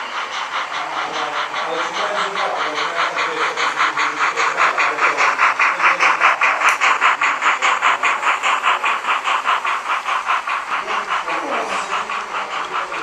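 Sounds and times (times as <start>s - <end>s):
model steam locomotive chuffing: 0.0s - 13.0s.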